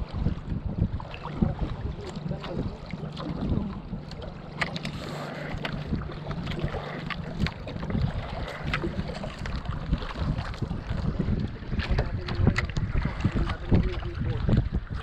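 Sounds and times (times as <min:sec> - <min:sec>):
boat engine humming: 0:00.0 - 0:15.0
wind on the microphone: 0:00.0 - 0:15.0.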